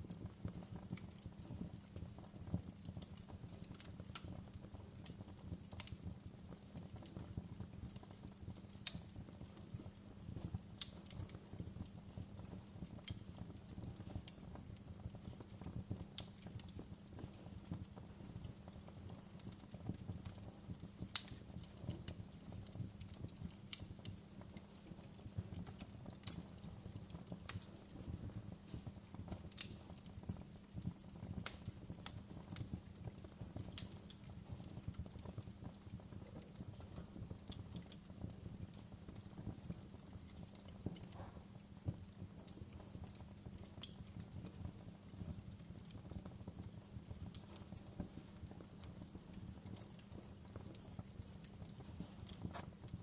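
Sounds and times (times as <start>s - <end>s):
low rumble of burning: 0.0s - 53.0s
wood fire crackling: 0.0s - 53.0s.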